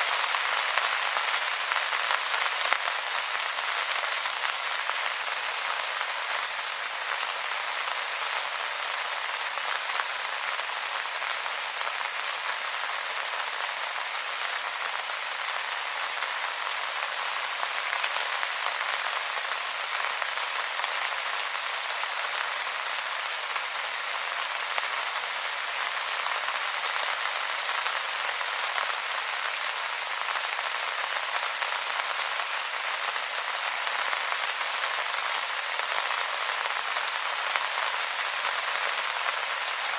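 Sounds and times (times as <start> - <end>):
rain on wet leaves: 0.0 - 39.9.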